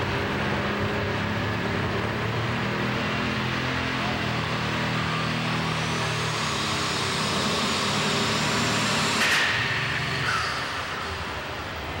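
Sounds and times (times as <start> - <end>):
tractor engine running loud: 0.0 - 12.0.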